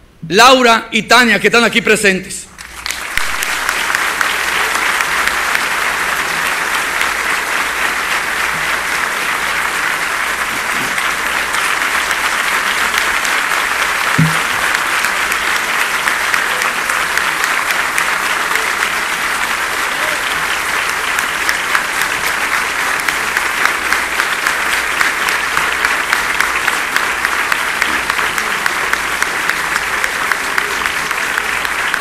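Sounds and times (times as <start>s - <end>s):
audience applauding: 2.6s - 32.0s.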